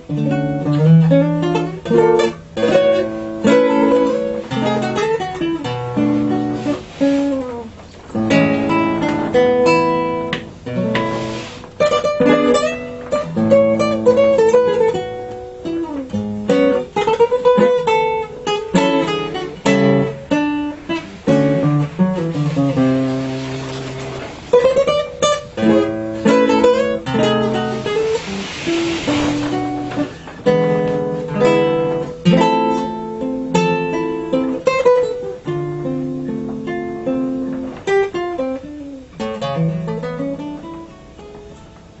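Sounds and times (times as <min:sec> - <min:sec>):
fingerstyle classical guitar: 0:00.0 - 0:42.0.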